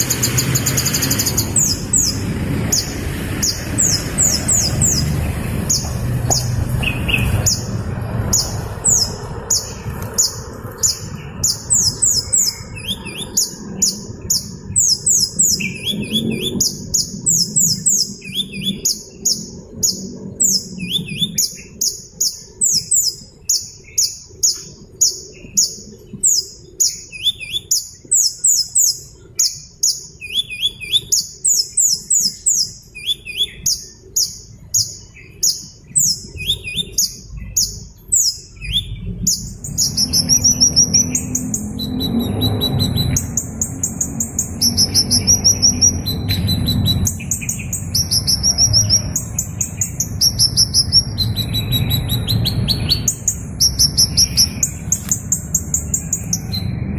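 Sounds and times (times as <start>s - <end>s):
low rumbling background noise: 0.0s - 56.9s
small bird chirping: 0.0s - 56.9s.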